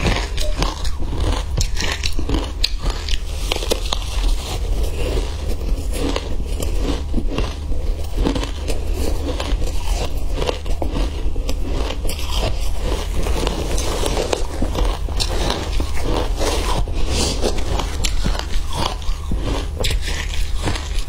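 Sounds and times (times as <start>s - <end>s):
ice crunching while chewed: 0.0s - 21.0s
steady low hum: 0.0s - 21.0s.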